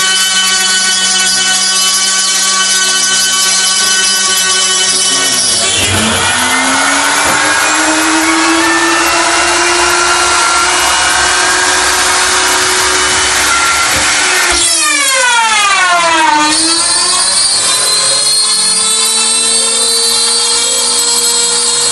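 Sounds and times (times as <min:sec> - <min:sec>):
cnc router milling acrylic: 0:00.0 - 0:21.9
whining tone sliding in pitch: 0:00.0 - 0:21.9.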